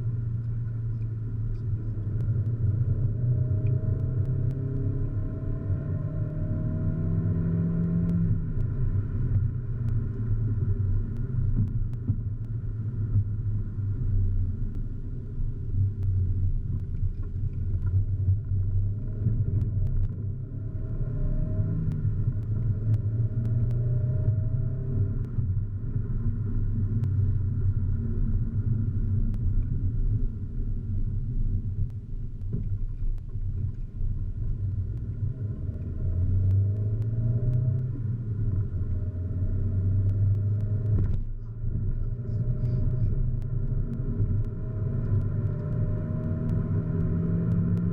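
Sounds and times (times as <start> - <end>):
car engine rumble: 0.0 - 47.9
road noise: 0.0 - 47.9.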